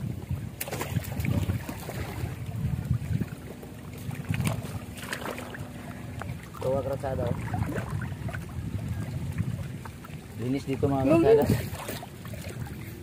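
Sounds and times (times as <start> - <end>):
water sloshing and splashing: 0.0 - 13.0
wind buffeting microphone: 0.0 - 13.0.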